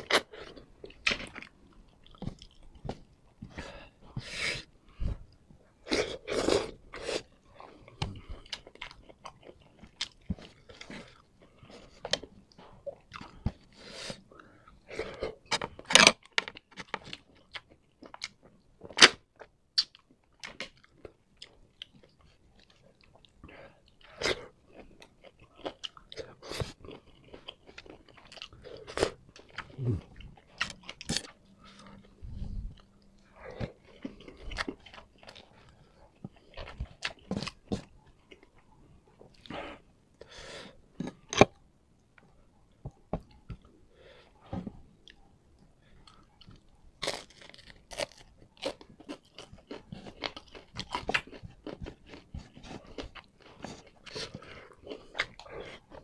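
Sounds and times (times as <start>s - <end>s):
person chewing crunchy food: 0.0s - 41.6s, 42.9s - 56.0s.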